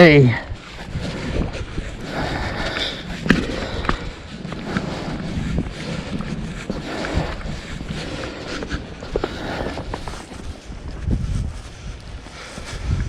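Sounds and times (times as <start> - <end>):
wind buffeting microphone: 0.0 - 13.0
footsteps crunching in snow: 0.4 - 13.0.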